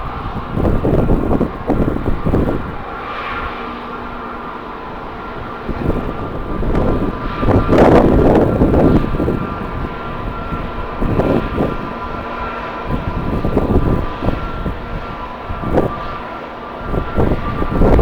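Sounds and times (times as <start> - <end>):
jet engines whining: 0.0 - 18.0
wind buffeting microphone: 0.0 - 18.0.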